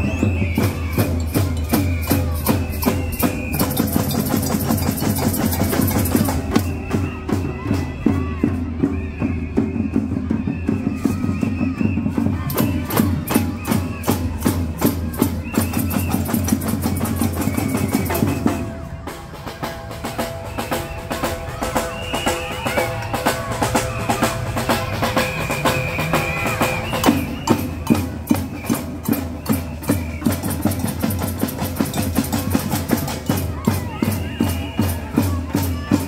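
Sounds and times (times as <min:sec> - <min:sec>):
street parade music with drums: 0:00.0 - 0:36.0.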